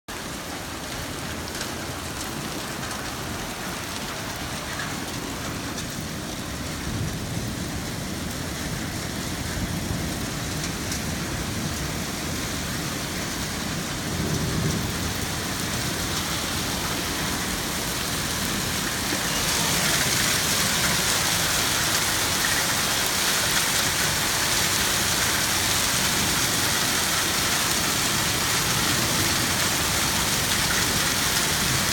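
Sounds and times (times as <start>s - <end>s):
heavy rain pouring: 0.1s - 31.9s.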